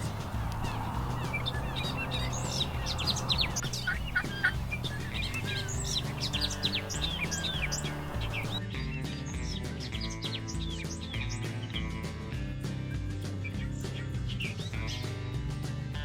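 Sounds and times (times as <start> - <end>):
small birds chirping: 0.0 - 11.9, 13.4 - 15.1
background music with low notes: 0.0 - 16.0.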